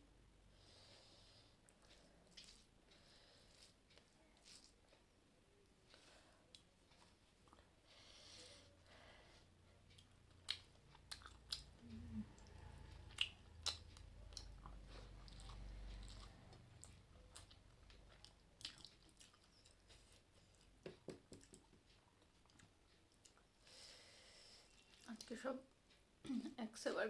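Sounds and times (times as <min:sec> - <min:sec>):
close-up chewing and mouth sounds: 0:00.9 - 0:07.9, 0:09.4 - 0:23.7, 0:24.6 - 0:25.4.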